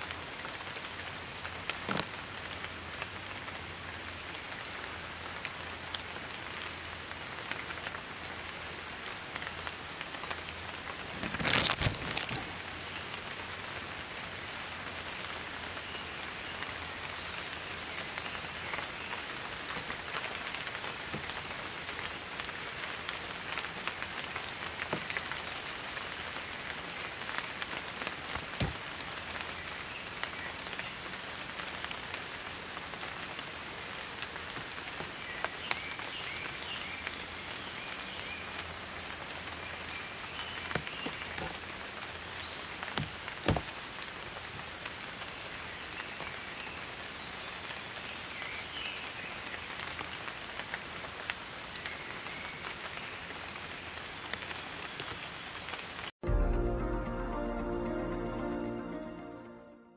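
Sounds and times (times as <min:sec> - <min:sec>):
heavy raindrops striking: 0:00.0 - 0:56.1
rain falling on foliage: 0:00.0 - 0:56.2.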